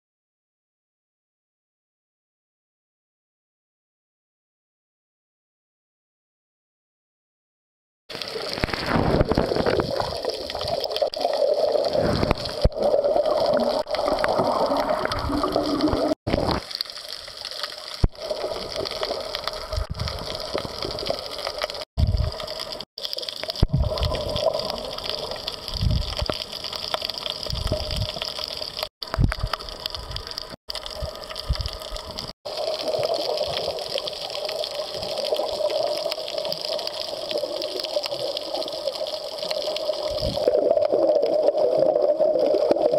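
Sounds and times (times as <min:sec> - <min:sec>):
muffled underwater water rushing: 0:08.1 - 0:42.9.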